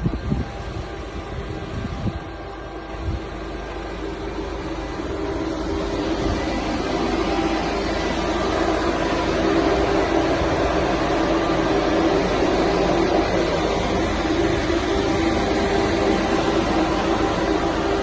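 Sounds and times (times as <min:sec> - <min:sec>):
van engine humming: 0:00.0 - 0:18.0.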